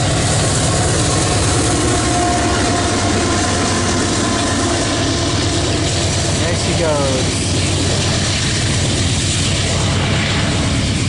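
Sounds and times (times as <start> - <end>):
locomotive diesel drone: 0.0 - 11.0
train wheels clattering on rails: 0.0 - 11.0.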